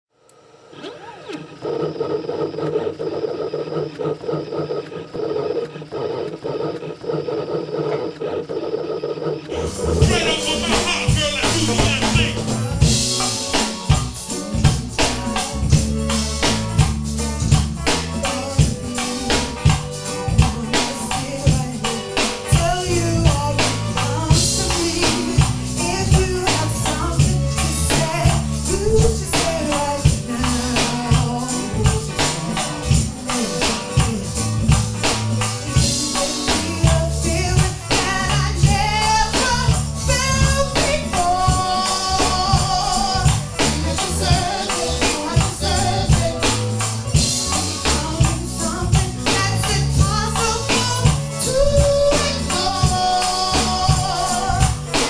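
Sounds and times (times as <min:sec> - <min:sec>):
music with fast percussive beat: 0:09.5 - 0:55.0.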